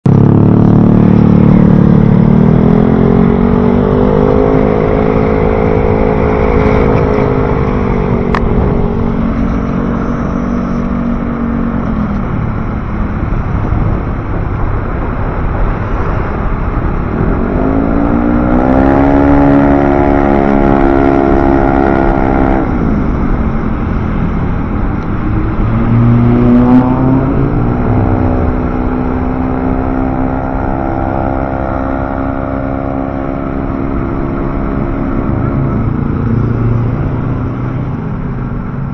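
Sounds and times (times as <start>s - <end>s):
traffic rumble: 0.0s - 38.9s
motor vehicle engines revving: 0.1s - 38.9s.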